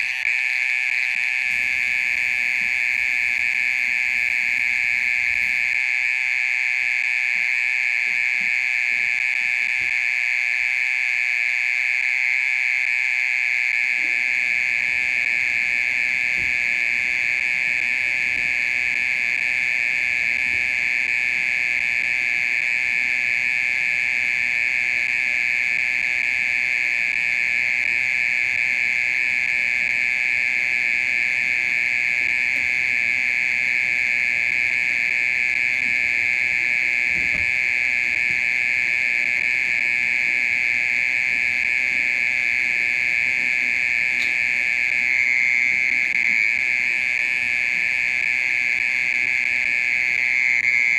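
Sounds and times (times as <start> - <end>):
mole cricket buzzing trill: 0.0 - 50.9.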